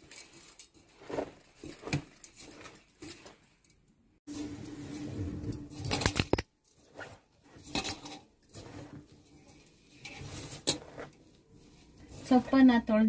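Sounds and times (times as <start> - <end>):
hand mixing dough rustling: 0.0 - 5.8, 6.8 - 13.0.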